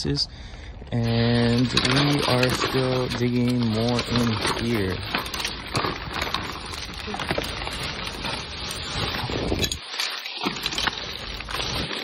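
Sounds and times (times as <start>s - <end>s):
plastic bags and paper rustling: 0.8s - 12.0s.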